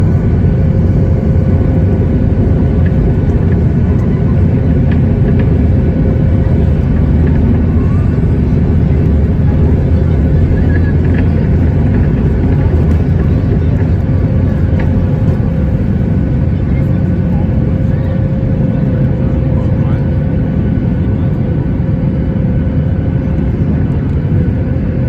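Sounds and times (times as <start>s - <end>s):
airliner engines rumbling: 0.0s - 25.0s.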